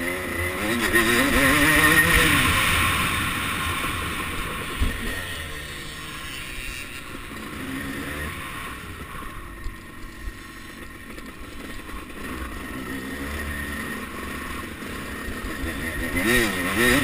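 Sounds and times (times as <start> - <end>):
motocross engine revving: 0.0 - 17.0.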